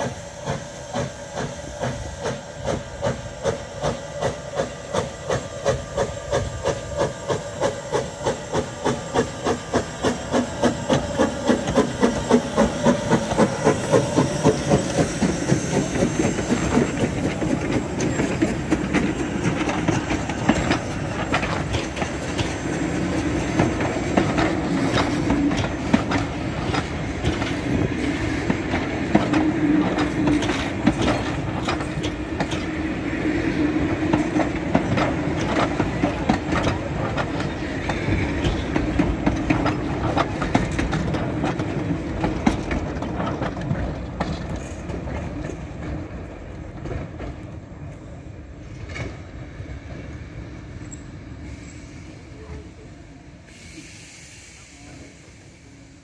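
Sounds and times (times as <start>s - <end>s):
steam locomotive exhaust chuffs: 0.0s - 45.8s, 50.6s - 56.0s
train wheels clickety-clack: 0.0s - 56.0s.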